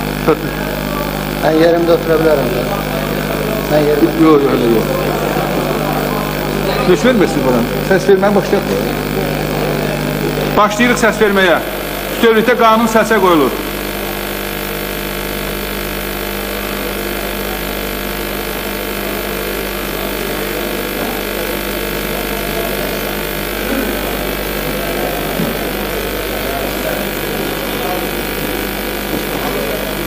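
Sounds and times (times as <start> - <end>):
electrical mains hum: 0.0 - 30.0
faint murmur of a hall: 0.0 - 30.0.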